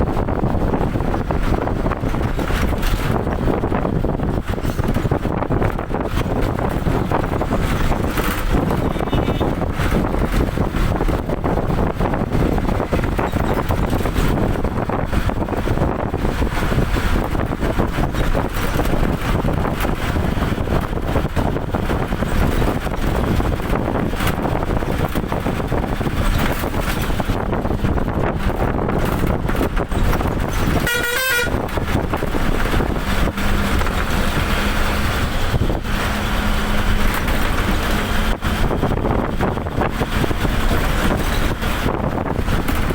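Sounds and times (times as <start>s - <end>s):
low rumble of travel: 0.0s - 42.9s
wind buffeting microphone: 0.0s - 42.9s.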